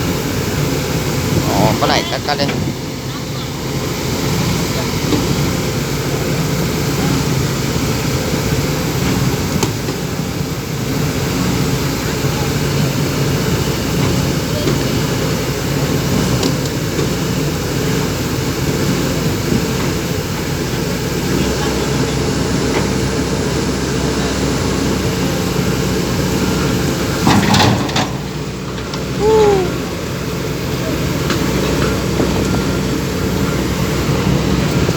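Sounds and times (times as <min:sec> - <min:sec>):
backhoe engine humming: 0:00.0 - 0:34.9.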